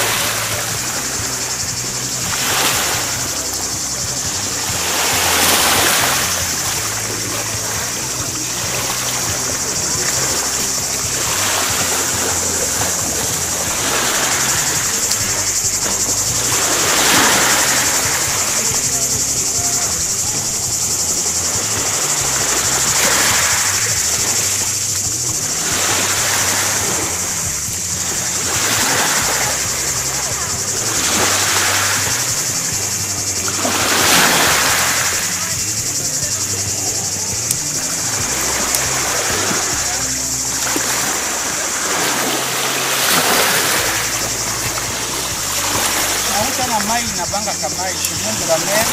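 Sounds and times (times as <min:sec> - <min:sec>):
high-pitched hiss: 0:00.0 - 0:48.9
splashing of wading: 0:00.0 - 0:48.9
waves washing onto pebbles: 0:00.0 - 0:48.9.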